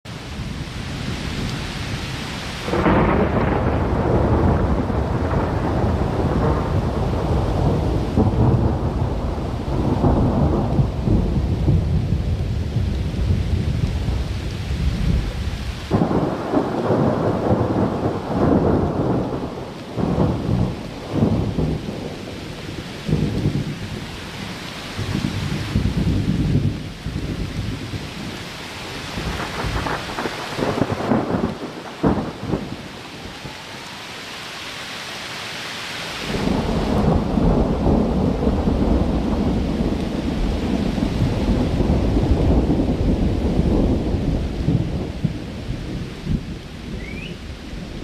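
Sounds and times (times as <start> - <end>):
rain hiss: 0.1 - 48.0
thunder claps and rumbling: 0.2 - 33.7, 36.2 - 48.0.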